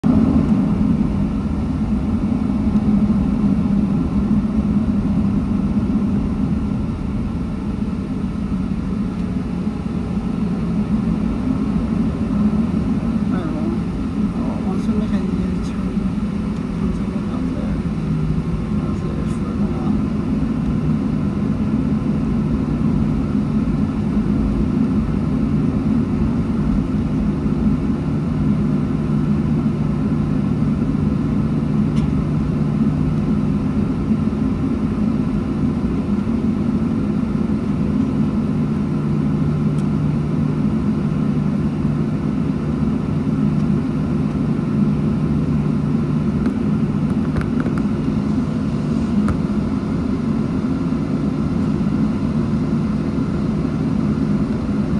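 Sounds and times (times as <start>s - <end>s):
airliner cabin drone: 0.0s - 54.9s.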